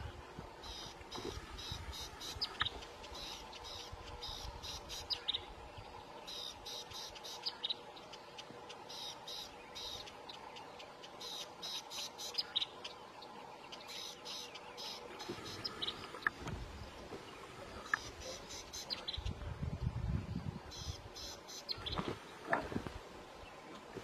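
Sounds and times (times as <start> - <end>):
faint steady hum: 0.0 - 24.0
birds chirping: 0.6 - 24.0.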